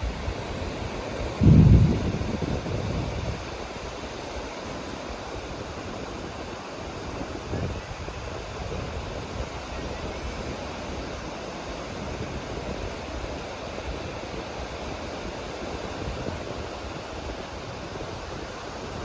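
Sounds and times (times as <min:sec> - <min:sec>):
sea surf on a beach: 0:00.0 - 0:19.0
wind rumbling on microphone: 0:00.0 - 0:19.0.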